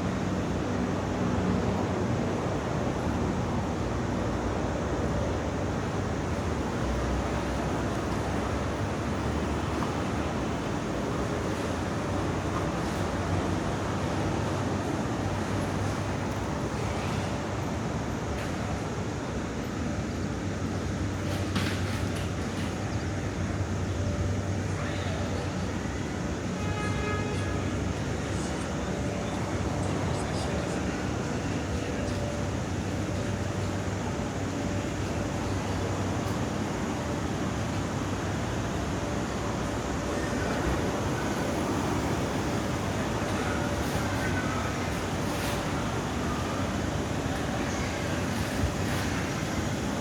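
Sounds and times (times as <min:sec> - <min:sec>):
airport ambient rumble and hiss: 0:00.0 - 0:50.0.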